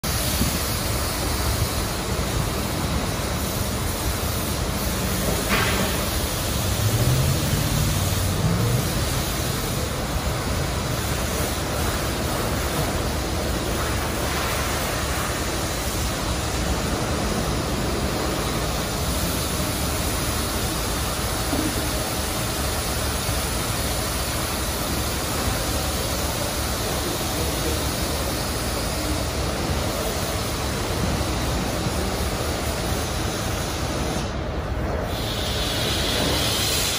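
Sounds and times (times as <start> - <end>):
water spray hissing: 0.0 - 34.3, 35.1 - 36.9.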